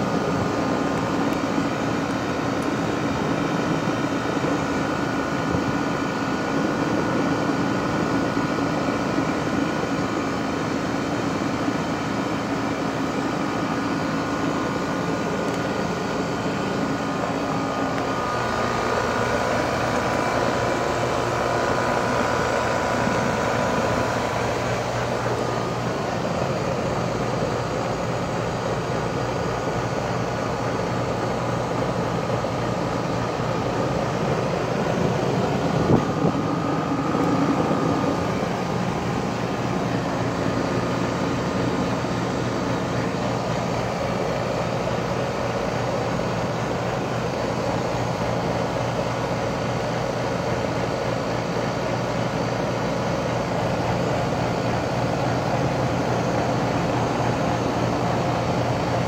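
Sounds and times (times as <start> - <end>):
heat pump humming: 0.0 - 59.0.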